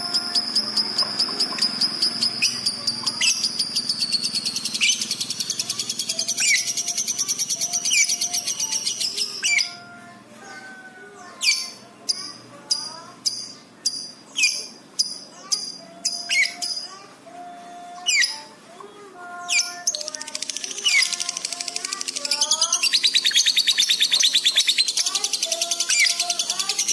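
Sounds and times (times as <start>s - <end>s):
lovebird chattering and chirping: 0.0s - 9.8s, 11.2s - 17.0s, 19.3s - 26.9s.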